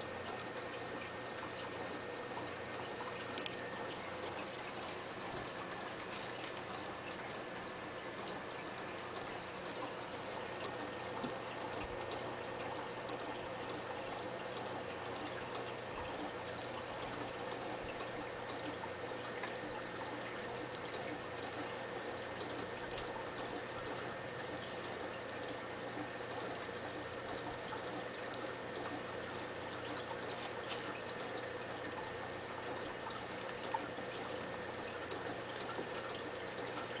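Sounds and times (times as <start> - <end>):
faint constant hum: 0.0 - 37.0
streams of bubbles: 0.0 - 37.0
water trickling and splashing: 0.0 - 37.0.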